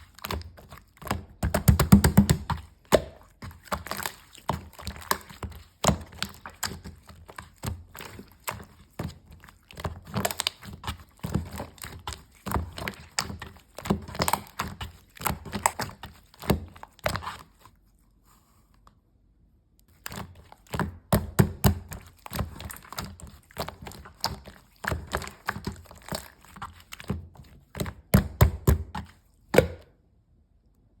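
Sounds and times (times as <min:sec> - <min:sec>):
slime being squished: 0:00.0 - 0:17.8, 0:19.9 - 0:29.9.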